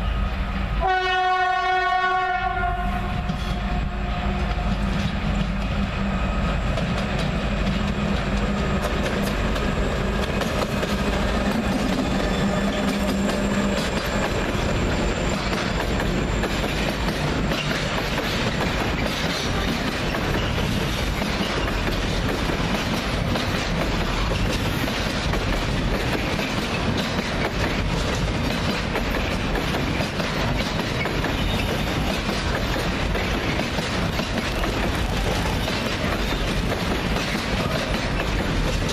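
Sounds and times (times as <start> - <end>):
train engine low tone: 0.0 - 38.9
train wheels clattering on rails: 3.1 - 38.9.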